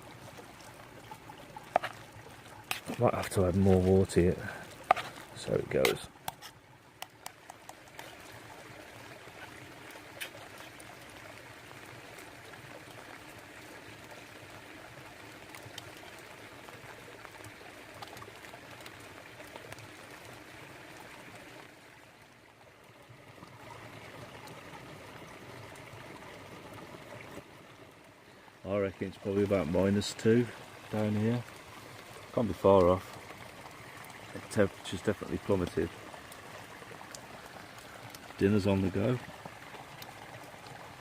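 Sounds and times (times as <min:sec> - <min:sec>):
brook babbling: 0:00.0 - 0:41.0.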